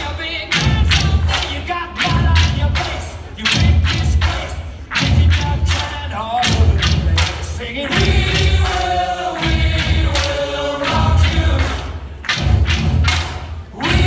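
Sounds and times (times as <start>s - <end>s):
group of voices singing: 0.0s - 14.0s
heavy drum beats: 0.0s - 14.0s.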